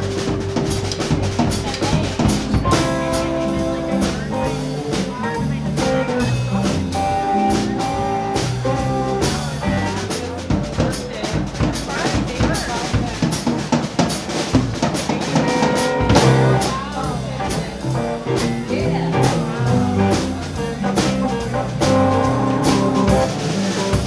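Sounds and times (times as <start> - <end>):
blues band playing: 0.0 - 24.0
drum kit steady beat: 0.0 - 24.0
held keyboard chords: 0.0 - 24.0.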